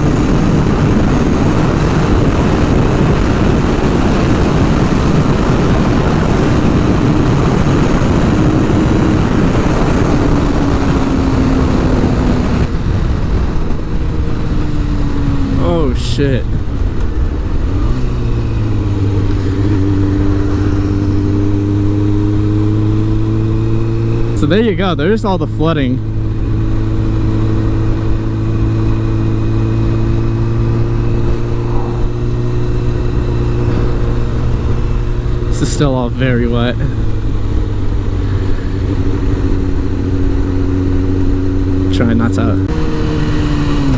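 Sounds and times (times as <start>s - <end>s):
sport bike engine: 0.0s - 43.9s
wind rush on microphone: 0.0s - 43.9s.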